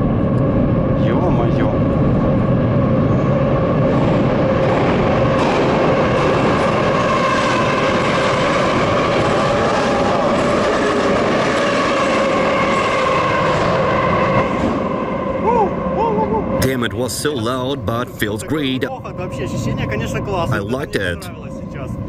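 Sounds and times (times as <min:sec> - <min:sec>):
subway train rumbling on rails: 0:00.0 - 0:22.0
train whining tones: 0:00.0 - 0:22.0.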